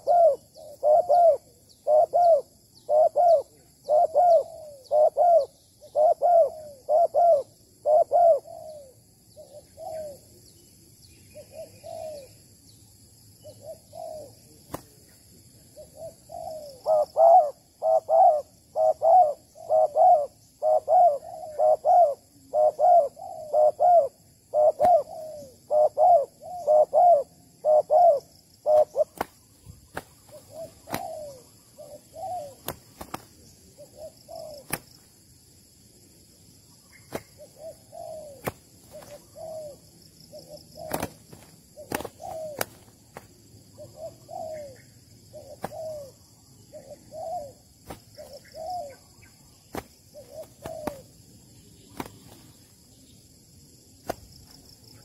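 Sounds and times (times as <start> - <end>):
doves cooing: 0.0 - 10.4, 11.4 - 12.4, 13.4 - 15.0, 15.6 - 35.0, 36.9 - 52.6.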